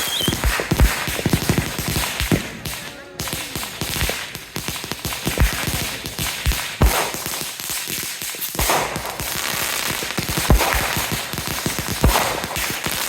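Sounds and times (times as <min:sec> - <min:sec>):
fireworks bangs: 0:00.0 - 0:13.0
fireworks cracking and popping: 0:00.0 - 0:13.0.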